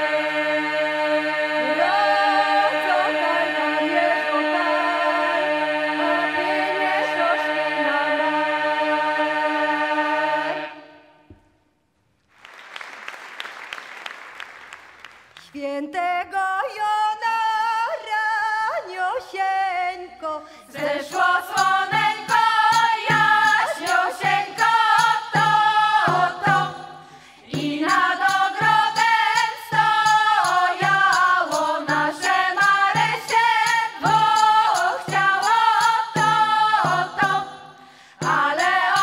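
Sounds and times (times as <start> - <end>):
women's vocal ensemble singing: 0.0 - 11.3, 16.3 - 39.0.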